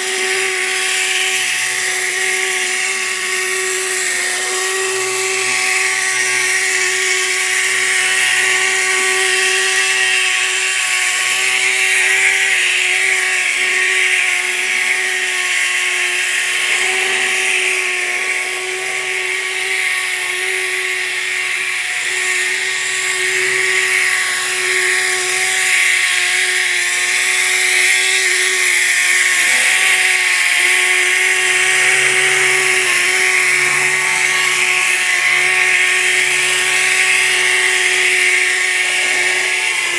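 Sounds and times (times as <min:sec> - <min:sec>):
electric motor whining and grinding: 0:00.0 - 0:39.9.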